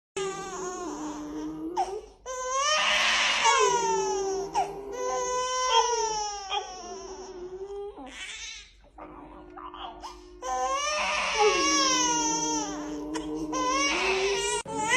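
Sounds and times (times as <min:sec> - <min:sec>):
baby crying: 0:00.2 - 0:14.9.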